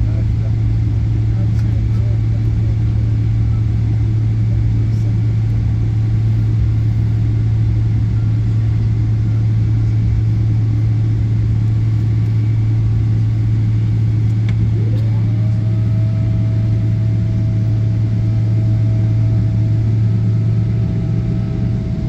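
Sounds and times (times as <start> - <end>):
jet airliner cabin drone: 0.0 - 22.0.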